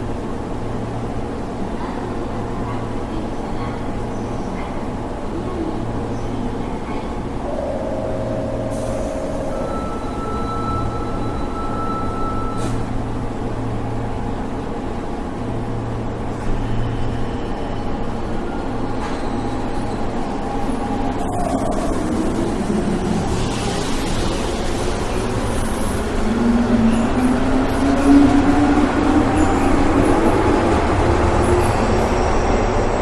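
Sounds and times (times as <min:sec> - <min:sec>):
subway train rumble: 0:00.0 - 0:33.0.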